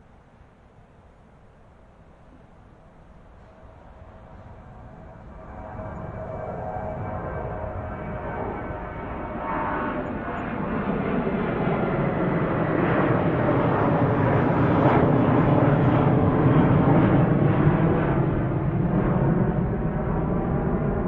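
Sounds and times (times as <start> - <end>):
jet airliner engines rushing: 2.9 - 21.0.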